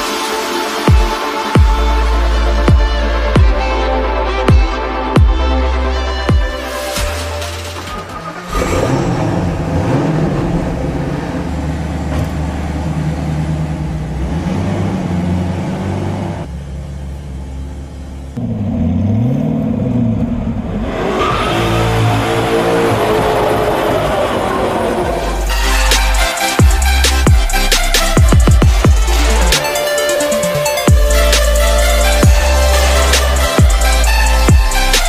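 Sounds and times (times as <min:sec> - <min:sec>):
car engine revving: 0:06.6 - 0:35.0.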